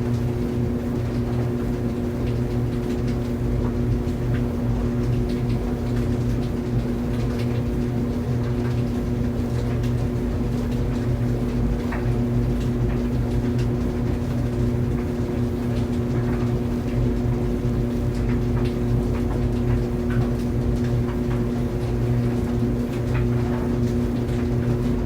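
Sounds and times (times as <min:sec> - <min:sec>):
clothes dryer running: 0:00.0 - 0:25.0.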